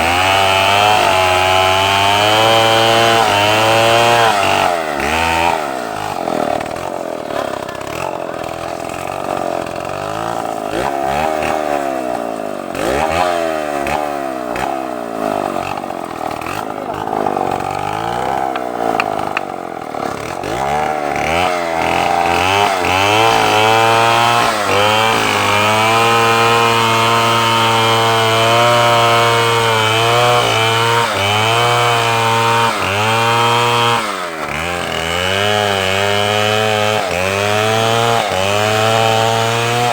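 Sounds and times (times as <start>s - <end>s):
chainsaw cutting wood: 0.0s - 39.9s
chainsaw engine revving: 0.0s - 39.9s.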